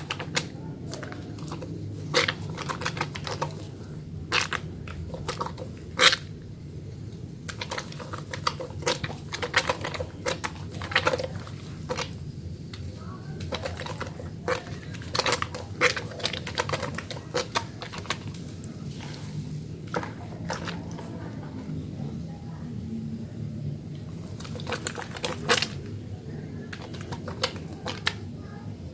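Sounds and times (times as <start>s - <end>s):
hands lathering soap: 0.0s - 6.3s, 7.1s - 21.6s, 23.9s - 28.3s
steady low hum: 0.0s - 28.9s.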